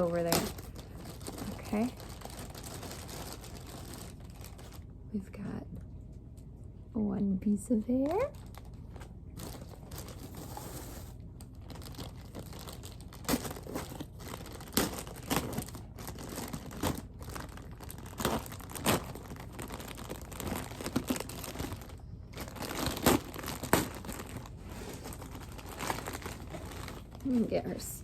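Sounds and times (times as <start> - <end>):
plastic packaging crinkling: 0.0 - 4.9, 8.0 - 28.0.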